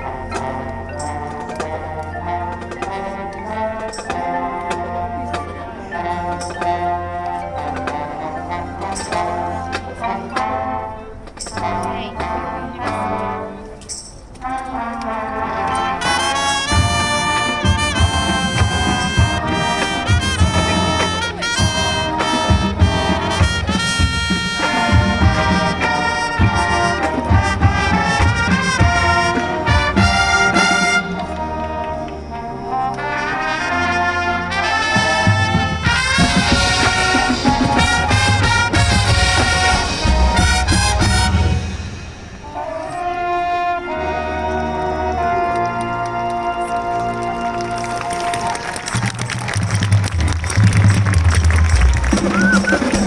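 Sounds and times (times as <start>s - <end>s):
marching band brass playing: 0.0s - 53.0s.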